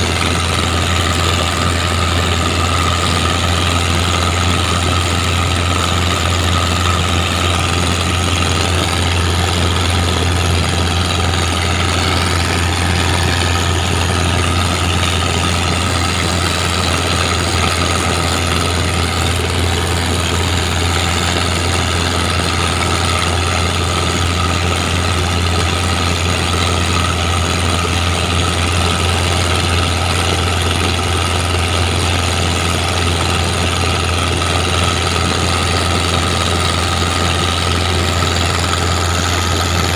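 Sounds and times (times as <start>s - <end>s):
boat diesel engine humming: 0.0s - 39.9s.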